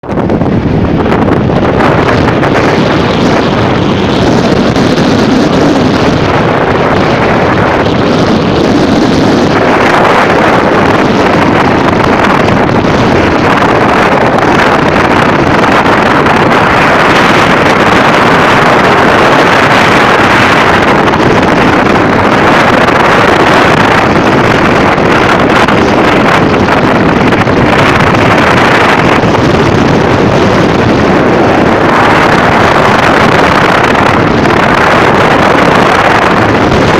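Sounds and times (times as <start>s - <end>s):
strong wind buffeting microphone: 0.0s - 36.9s.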